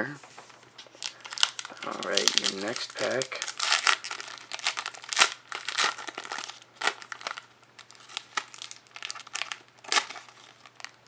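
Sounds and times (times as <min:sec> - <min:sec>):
wrapper crinkling and tearing: 0:00.8 - 0:11.0.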